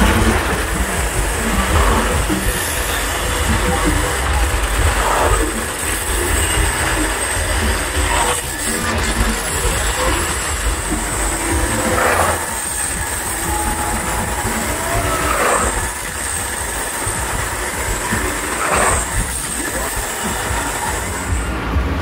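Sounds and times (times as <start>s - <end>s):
steady deep rumble: 0.0s - 22.0s.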